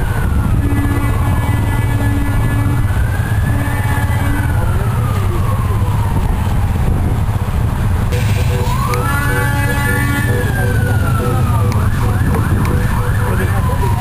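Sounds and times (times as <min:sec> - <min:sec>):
siren wailing: 0:00.0 - 0:07.1, 0:08.1 - 0:14.0
cars driving slowly past: 0:00.0 - 0:14.0.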